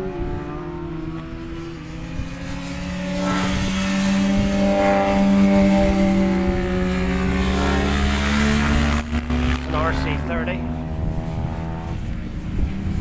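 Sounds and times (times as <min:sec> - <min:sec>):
racing motorcycle engine revving: 0:00.0 - 0:13.0
wind buffeting microphone: 0:00.0 - 0:13.0.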